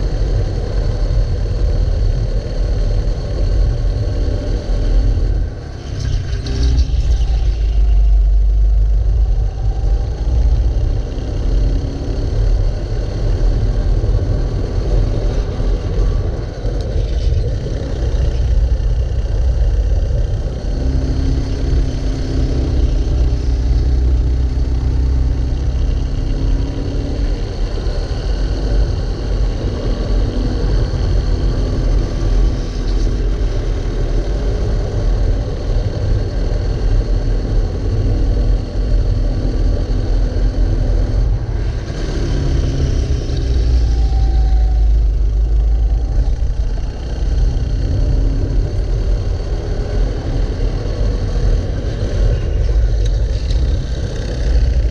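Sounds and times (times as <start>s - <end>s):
racing kart engine: 0.0s - 54.9s.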